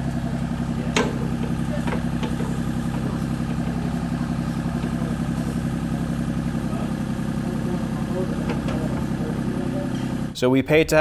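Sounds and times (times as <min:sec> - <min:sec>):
excavator diesel engine running: 0:00.0 - 0:10.4.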